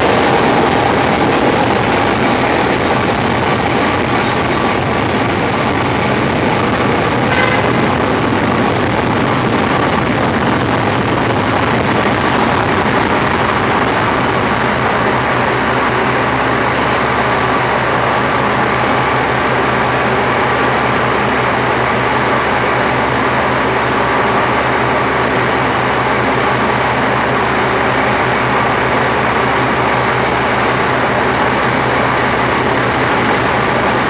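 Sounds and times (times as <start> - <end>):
low hum: 0.0 - 27.8
elevated train rumble: 0.0 - 34.0
traffic noise: 0.0 - 34.0.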